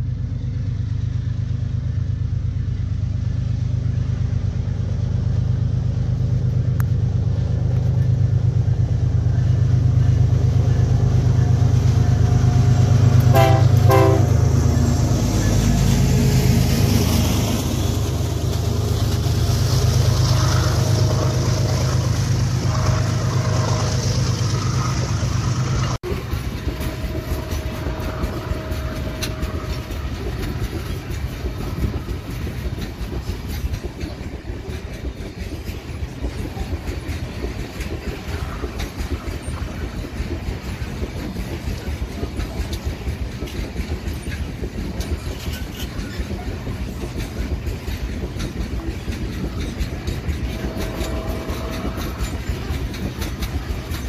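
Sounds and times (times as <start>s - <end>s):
diesel locomotive engine drone: 0.0s - 54.0s
train wheels clickety-clack: 3.8s - 54.0s.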